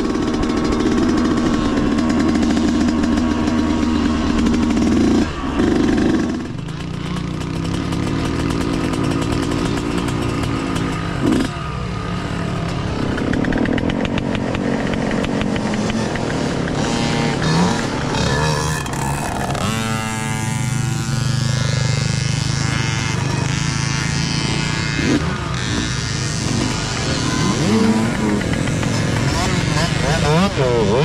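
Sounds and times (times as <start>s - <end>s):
mini dirt bike engines revving: 0.0s - 31.0s.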